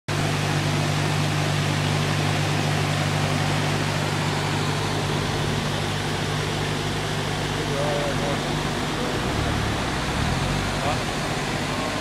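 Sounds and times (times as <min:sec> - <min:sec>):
boat engine idling: 0:00.1 - 0:12.0.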